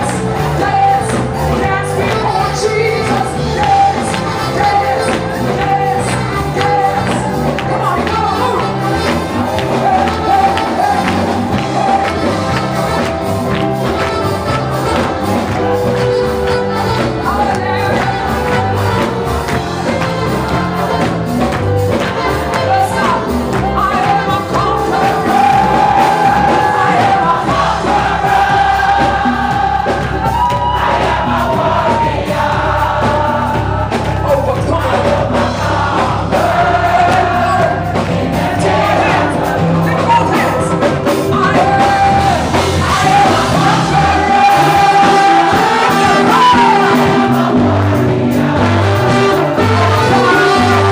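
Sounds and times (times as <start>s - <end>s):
choir and congregation singing: 0.0s - 50.9s
driving beat: 0.0s - 50.9s.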